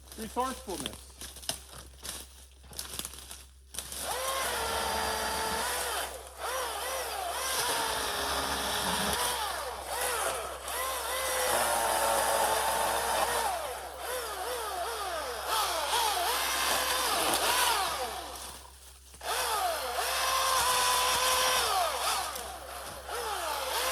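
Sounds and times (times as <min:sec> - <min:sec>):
electric chainsaw whining: 0:03.8 - 0:23.9.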